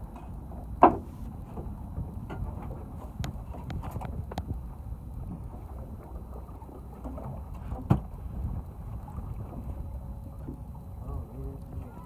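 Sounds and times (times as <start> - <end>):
boat low rumble: 0.0 - 12.0.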